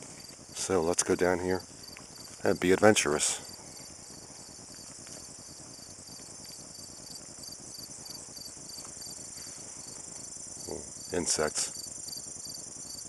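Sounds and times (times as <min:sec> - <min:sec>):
insect chirps: 0:00.0 - 0:13.0
insects chirring: 0:00.0 - 0:13.0.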